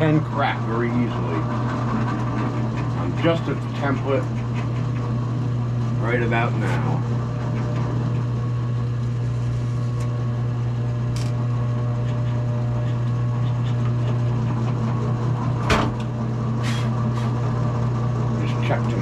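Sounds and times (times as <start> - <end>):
drill press motor running: 0.0 - 19.0.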